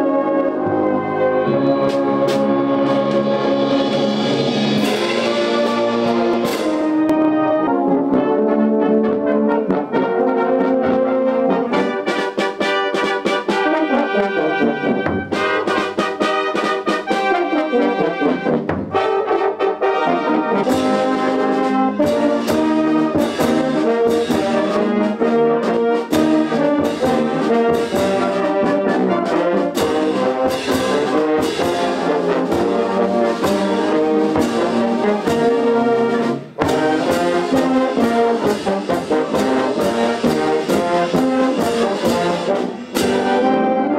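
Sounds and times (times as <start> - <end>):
percussion keeping a steady beat: 0.0 - 8.3, 9.0 - 19.4, 20.6 - 43.9
brass band playing: 0.0 - 43.9.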